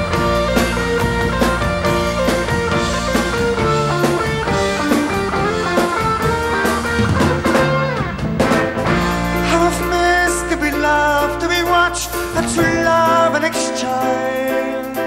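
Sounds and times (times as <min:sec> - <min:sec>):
drum kit: 0:00.0 - 0:15.0
electric guitar: 0:00.0 - 0:15.0.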